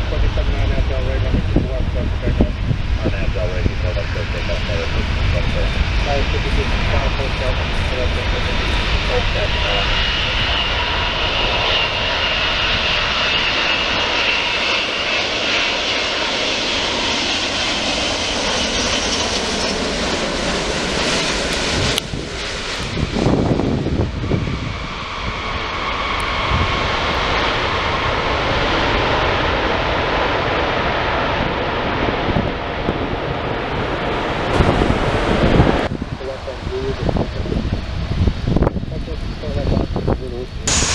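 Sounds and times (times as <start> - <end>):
jet engines roaring with whine: 0.0 - 40.9.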